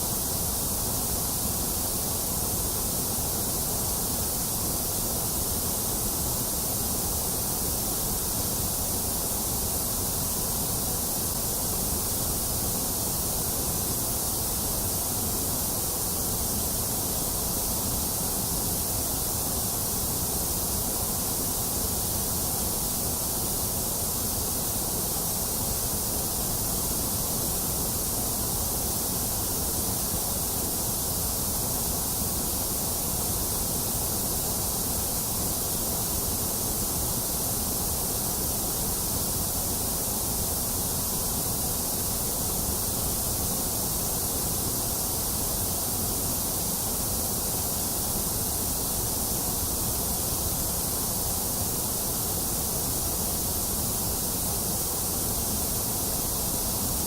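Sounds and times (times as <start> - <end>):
white noise hiss and rumble: 0.0 - 57.0.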